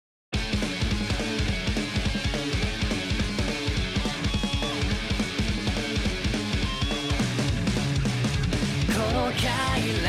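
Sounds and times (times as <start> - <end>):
driving drum beat: 0.4 - 10.0
electric guitar: 0.4 - 10.0.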